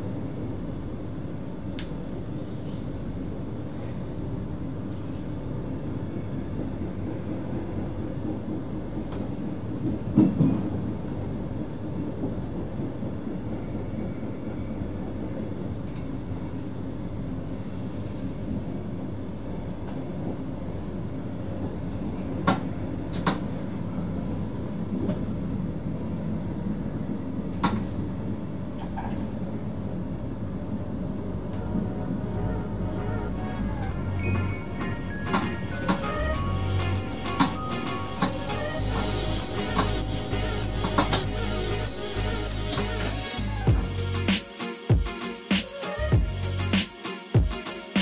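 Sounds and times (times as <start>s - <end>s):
electric train rumbling: 0.0s - 48.0s.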